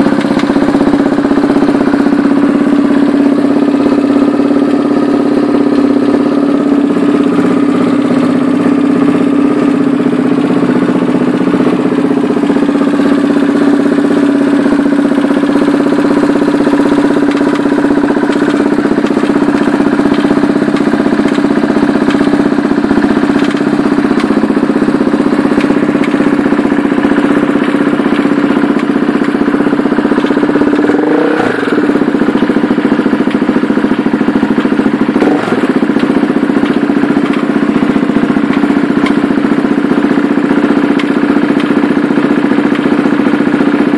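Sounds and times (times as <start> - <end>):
engine rattle: 0.0 - 43.9
motorcycle engine idling: 0.0 - 43.9.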